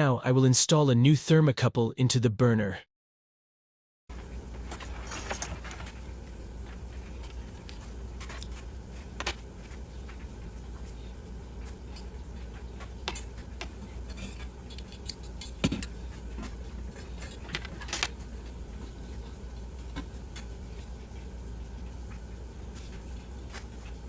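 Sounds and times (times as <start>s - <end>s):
steady low hum: 4.1s - 24.0s.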